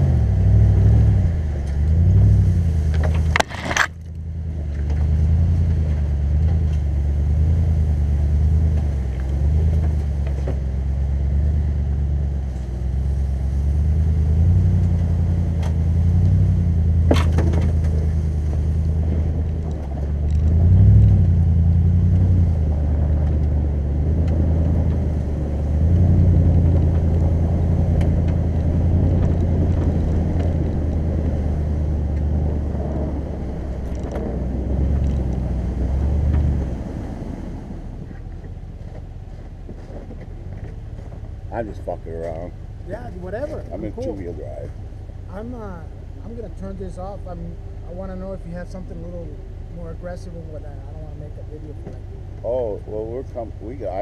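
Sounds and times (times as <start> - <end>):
car engine humming: 0.0 - 54.0.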